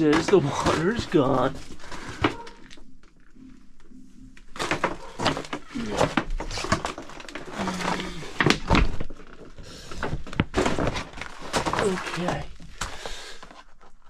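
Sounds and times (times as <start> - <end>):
rustling: 0.0 - 2.9, 4.6 - 14.0.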